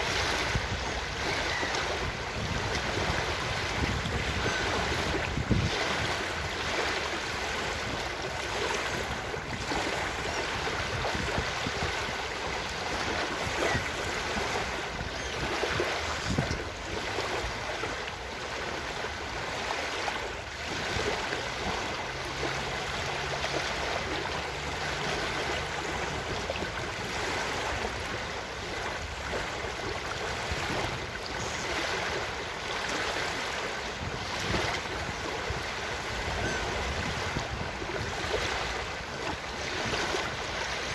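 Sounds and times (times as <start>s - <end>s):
ocean surf washing onto beach: 0.0s - 40.9s.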